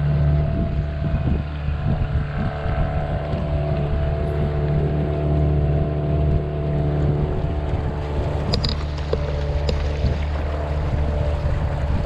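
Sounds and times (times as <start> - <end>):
outboard motor running: 0.0 - 12.0
water rushing along hull: 0.0 - 12.0
wind on microphone: 0.0 - 12.0.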